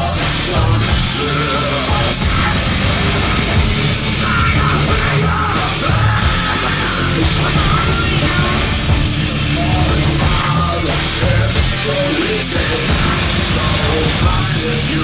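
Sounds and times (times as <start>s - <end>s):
live heavy rock band: 0.0s - 15.0s.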